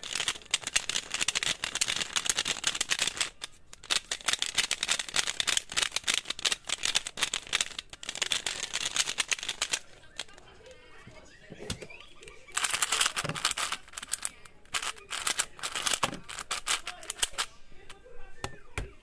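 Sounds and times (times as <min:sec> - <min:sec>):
puzzle cube plastic clicks: 0:00.0 - 0:10.5, 0:11.6 - 0:18.0.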